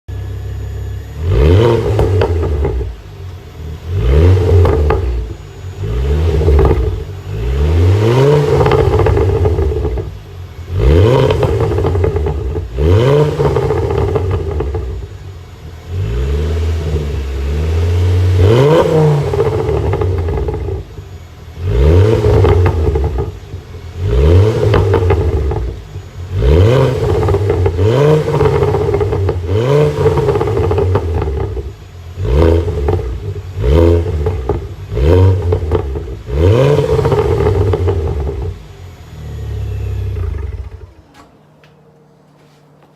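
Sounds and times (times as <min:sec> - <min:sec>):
car engine revving: 0:00.1 - 0:41.2
exhaust crackle: 0:00.1 - 0:41.8.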